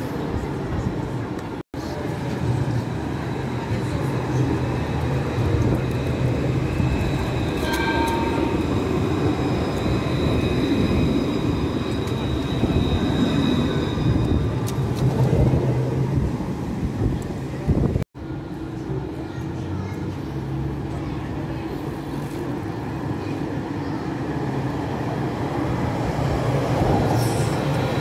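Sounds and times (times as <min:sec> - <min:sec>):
tram rumbling on rails: 0:00.0 - 0:28.0.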